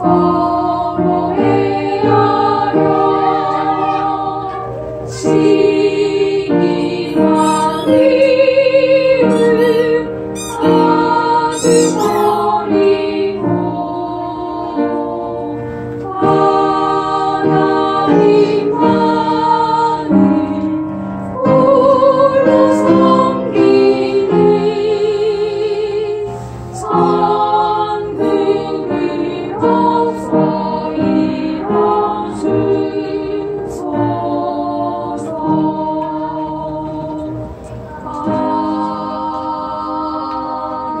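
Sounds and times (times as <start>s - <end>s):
vocal ensemble singing a hymn: 0.0s - 41.0s.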